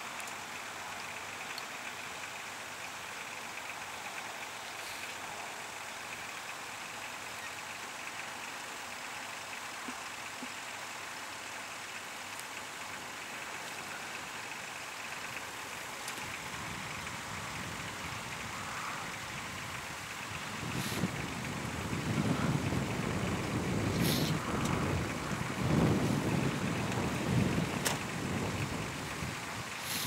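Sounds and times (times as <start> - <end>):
steady outdoor hiss: 0.0 - 30.0
utility vehicle engine: 0.0 - 30.0.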